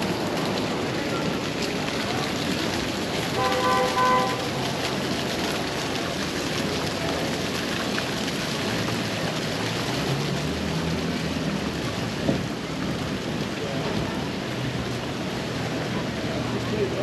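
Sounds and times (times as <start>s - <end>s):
street ambience hiss: 0.0s - 17.0s.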